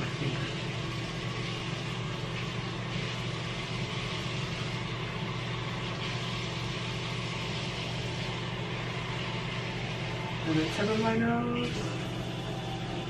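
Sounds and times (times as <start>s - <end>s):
fan humming and hissing: 0.0s - 13.0s.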